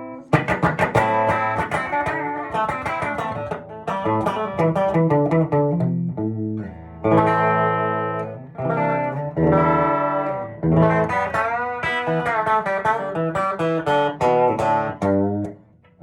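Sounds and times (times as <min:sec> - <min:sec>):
electric guitar picked notes: 0:00.0 - 0:16.0
ringing guitar chords: 0:00.0 - 0:16.0.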